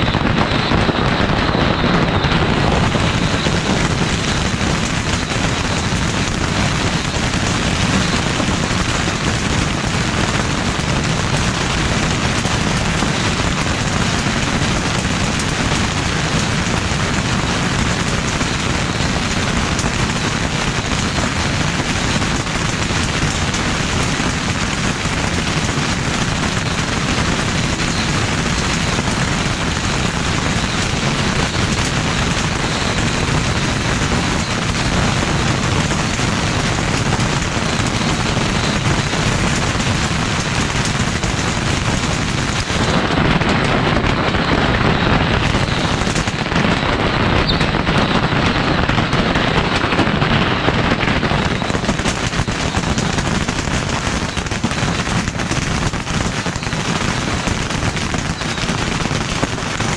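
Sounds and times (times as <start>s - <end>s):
firecrackers crackling barrage: 0.0s - 59.9s.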